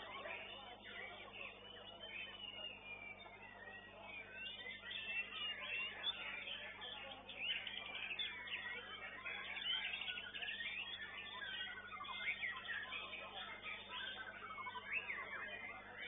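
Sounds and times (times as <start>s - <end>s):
birds singing whistled trills: 0.0s - 16.0s.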